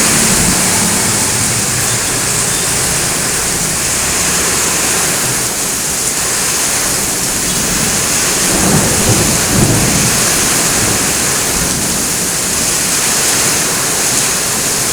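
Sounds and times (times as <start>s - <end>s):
thunder rumbling: 0.0s - 14.0s
heavy rain pouring: 0.0s - 14.9s.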